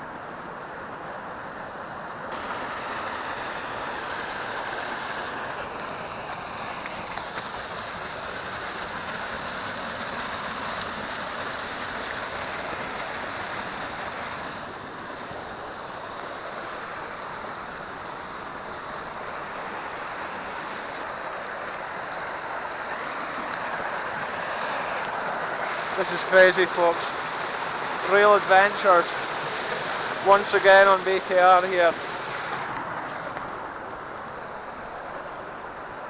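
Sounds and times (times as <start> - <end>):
waterfall rushing: 2.3 - 36.0.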